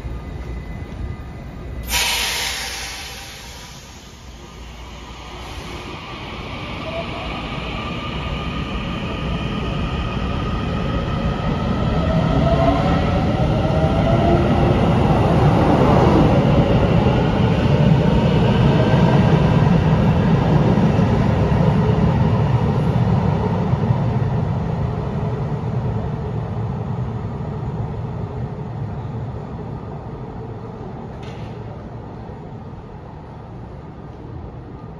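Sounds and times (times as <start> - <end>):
rumble of wheels on rails: 0.0 - 34.9.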